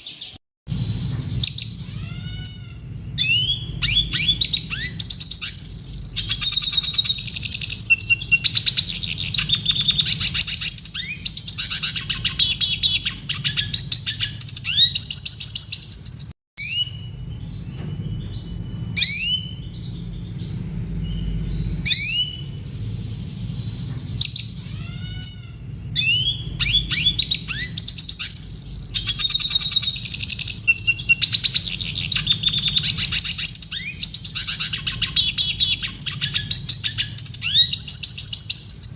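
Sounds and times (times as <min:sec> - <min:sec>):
bird rising calls: 0:00.0 - 0:38.9
bird twittering trills: 0:00.0 - 0:38.9.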